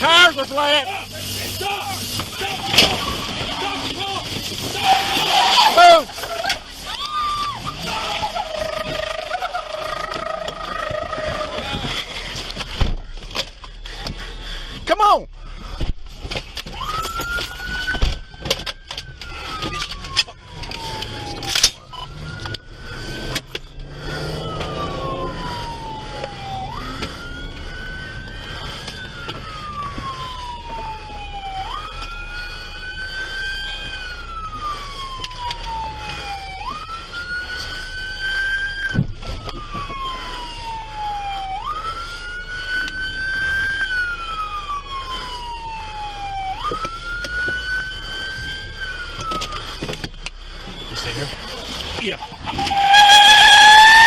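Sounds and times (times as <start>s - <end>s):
fainter higher siren: 0.0s - 54.0s
police car siren wailing: 0.0s - 54.0s.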